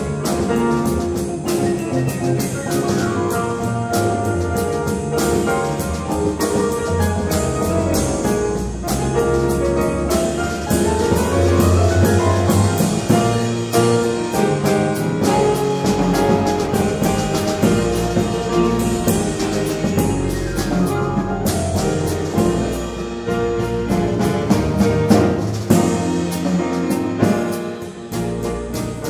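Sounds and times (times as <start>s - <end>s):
drum kit and cymbals: 0.0s - 29.0s
piano chords: 0.0s - 29.0s
upright bass: 0.0s - 29.0s.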